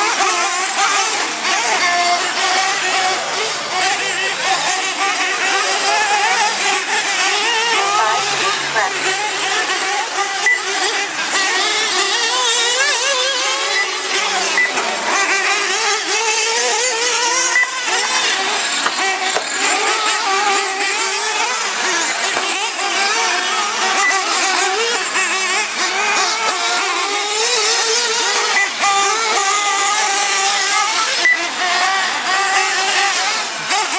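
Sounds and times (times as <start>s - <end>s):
toy car motors whining: 0.0s - 33.9s.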